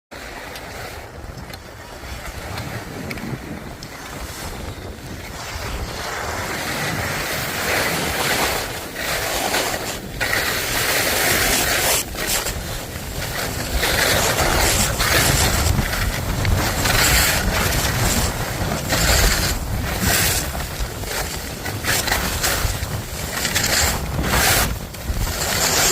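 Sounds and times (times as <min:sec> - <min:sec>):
skis scraping on snow: 0:00.2 - 0:25.9
wind rushing over microphone: 0:00.7 - 0:25.9.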